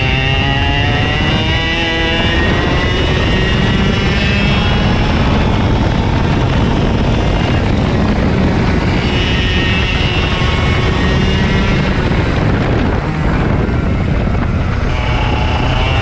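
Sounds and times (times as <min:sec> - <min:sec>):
kart engine running hard: 0:00.0 - 0:16.0.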